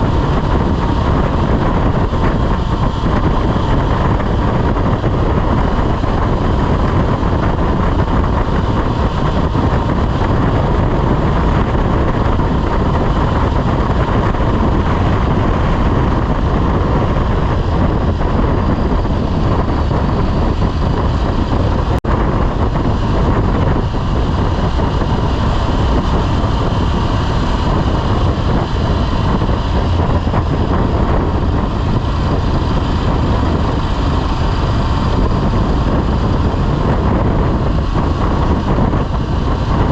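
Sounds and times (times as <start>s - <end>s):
motorcycle engine running: 0.0s - 39.9s
wind over microphone: 0.0s - 39.9s.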